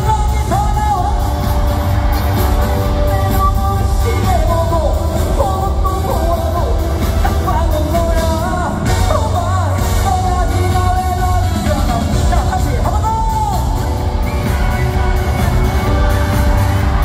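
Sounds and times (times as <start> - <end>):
band backing music: 0.0 - 17.0
heavy bass beat: 0.0 - 17.0
man singing lead vocal: 0.0 - 17.0.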